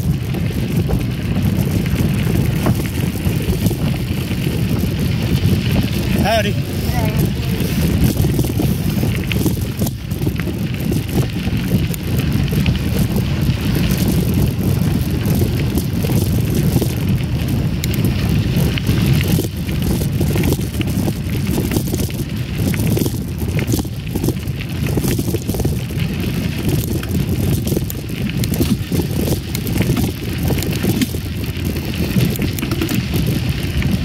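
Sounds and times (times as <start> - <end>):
bike rattles and clicks: 0.0 - 34.0
bike tyres rolling on gravel: 0.0 - 34.0
wind on microphone: 0.0 - 34.0.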